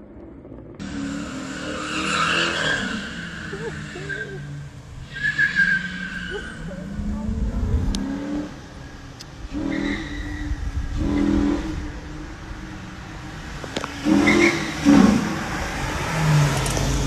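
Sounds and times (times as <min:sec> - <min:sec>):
pickup truck engine revving: 0:00.8 - 0:17.0.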